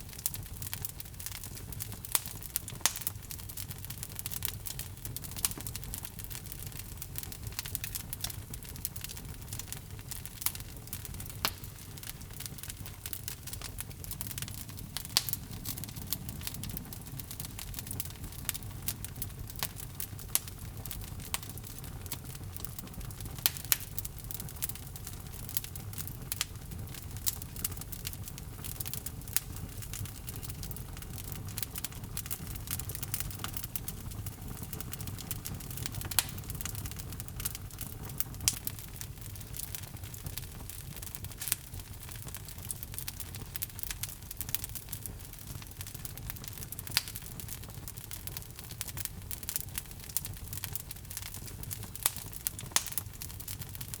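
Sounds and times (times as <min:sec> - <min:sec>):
log fire crackling and popping: 0:00.0 - 0:54.0
low rumble of flame: 0:00.0 - 0:54.0.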